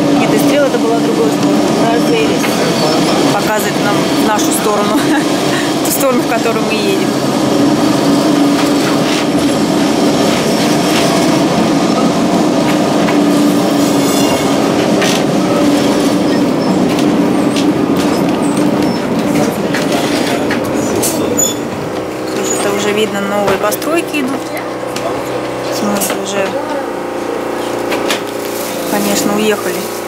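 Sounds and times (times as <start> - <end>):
electric tram low hum: 0.0 - 30.0
wheels on rails: 0.0 - 30.0.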